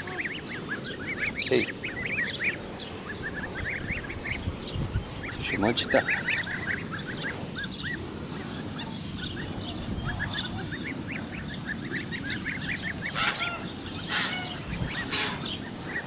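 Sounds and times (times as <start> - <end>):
louder bird calls: 0.0 - 16.0
young geese and ducks peeping: 0.0 - 16.0.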